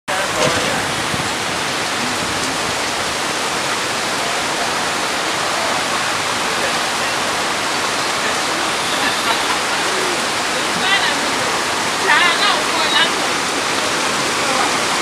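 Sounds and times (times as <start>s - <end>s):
floodwater rushing into drain: 0.1s - 15.0s
heavy rain hissing: 0.1s - 15.0s.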